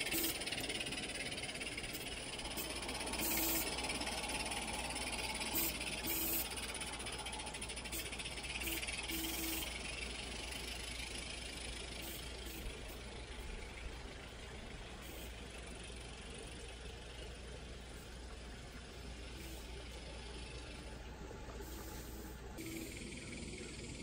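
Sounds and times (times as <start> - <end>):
model steam locomotive hissing: 0.0 - 24.0
steady low hum: 0.0 - 24.0.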